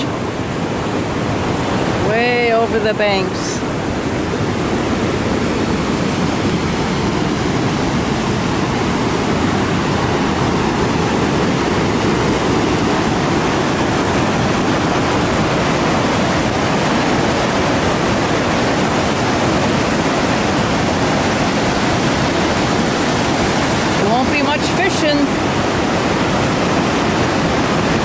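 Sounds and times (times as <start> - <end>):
river rapids roaring: 0.0 - 28.0.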